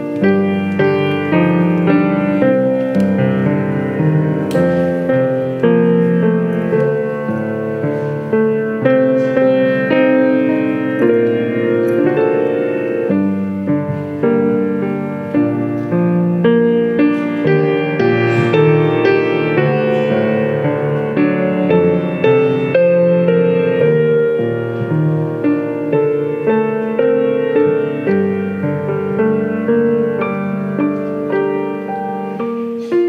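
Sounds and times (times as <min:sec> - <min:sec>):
keyboard playing church music: 0:00.0 - 0:33.0.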